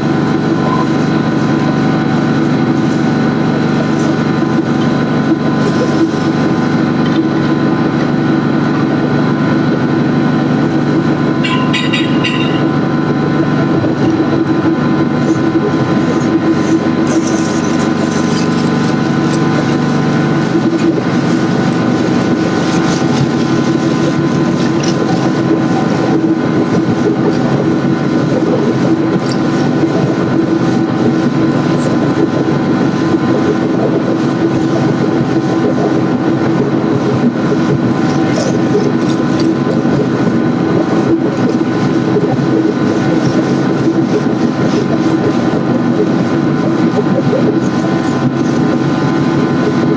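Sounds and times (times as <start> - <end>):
machinery rumbling with held tones: 0.0 - 49.9.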